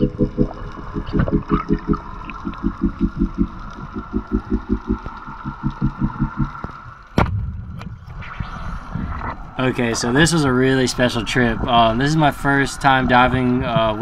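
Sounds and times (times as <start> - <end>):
rhythmic low pulsing: 0.0 - 14.0.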